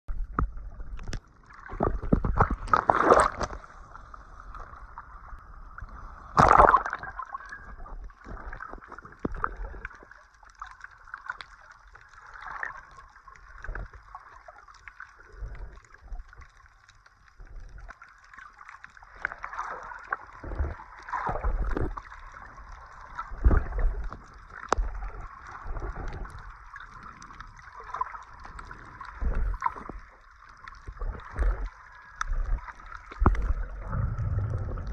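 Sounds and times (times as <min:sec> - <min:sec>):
water sloshing and gurgling: 0:00.1 - 0:34.9
water splashes: 0:00.1 - 0:34.9.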